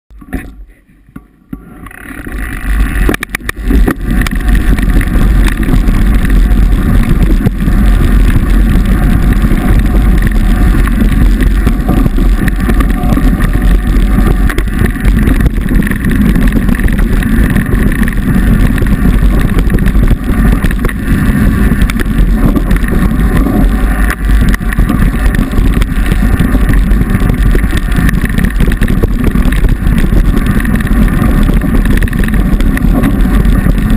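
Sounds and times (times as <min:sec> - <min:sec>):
bike rattling over gravel: 0:01.6 - 0:33.9
wind buffeting microphone: 0:01.8 - 0:33.9.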